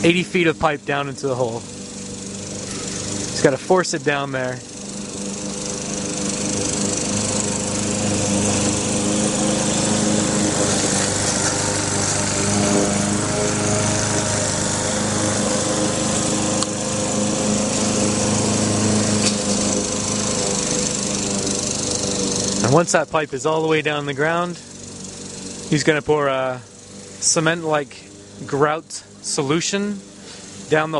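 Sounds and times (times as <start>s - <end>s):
drilling rig engine running: 0.0s - 30.9s.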